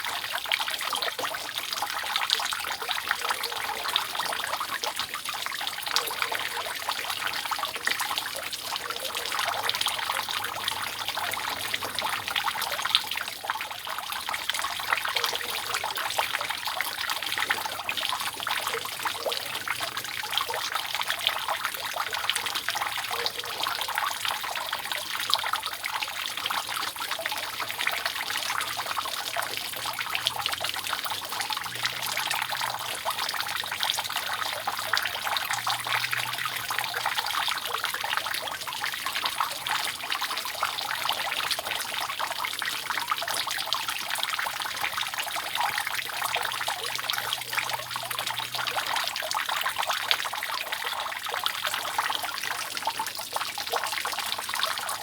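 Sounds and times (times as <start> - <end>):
rainwater dripping off roof: 0.0 - 55.0.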